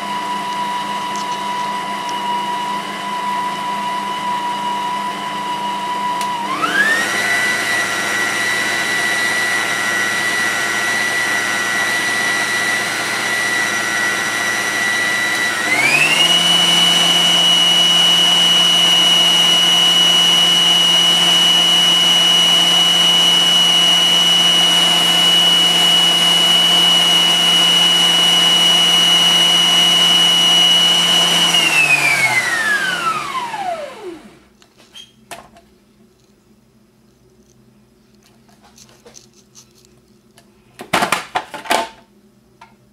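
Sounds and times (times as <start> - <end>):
food processor motor whirring: 0.0 - 34.5.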